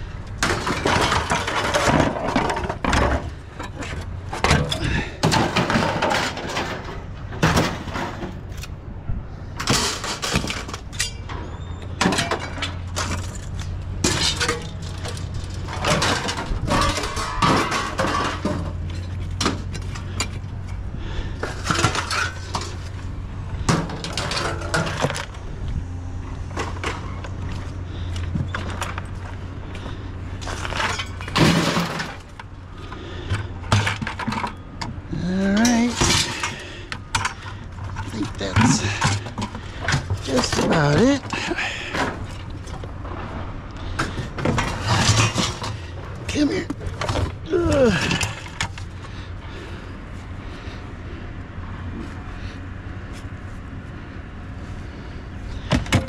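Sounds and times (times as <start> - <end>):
scrap metal clanging: 0.4 - 8.7, 9.6 - 25.6, 26.3 - 50.8
low engine hum: 6.8 - 56.0.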